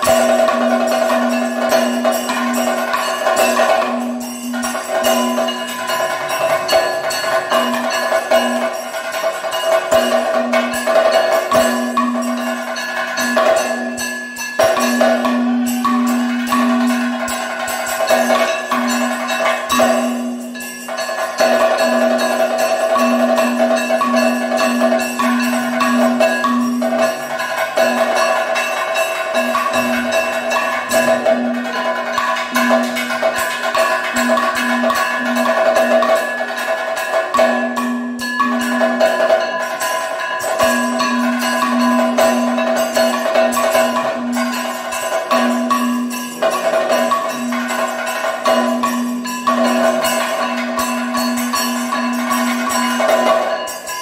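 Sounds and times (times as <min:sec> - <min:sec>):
drums in fast rhythm: 0:00.0 - 0:54.0.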